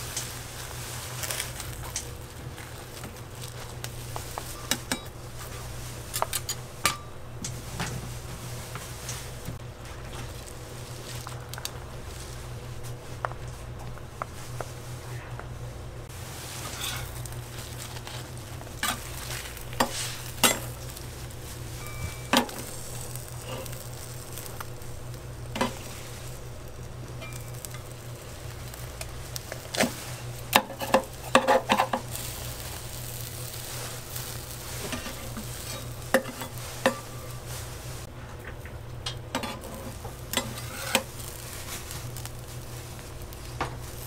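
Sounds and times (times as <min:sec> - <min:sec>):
griddle sizzling: 0:00.0 - 0:44.0.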